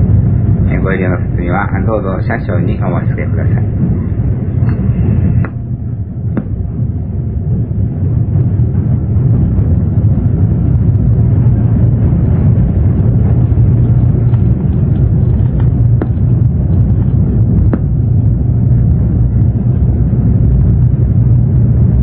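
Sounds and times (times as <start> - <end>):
train interior rumble: 0.0 - 22.0.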